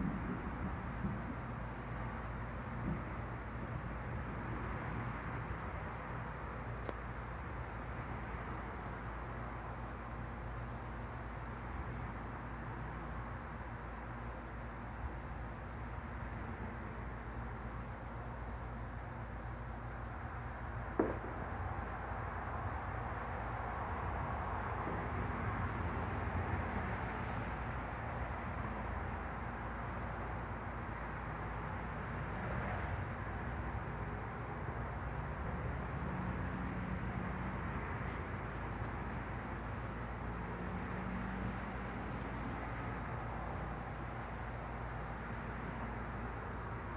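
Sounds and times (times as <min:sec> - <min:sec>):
insects chirping: 0:00.0 - 0:46.9
outdoor background hiss: 0:00.0 - 0:46.9.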